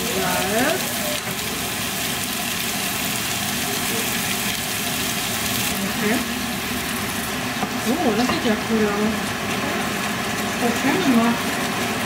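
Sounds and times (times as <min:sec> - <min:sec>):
extractor hood fan running: 0:00.0 - 0:12.0.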